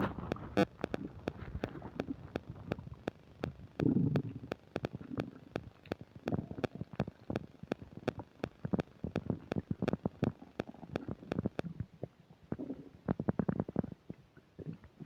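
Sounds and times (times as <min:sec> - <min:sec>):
stomach gurgling and rumbling: 0:00.0 - 0:15.0.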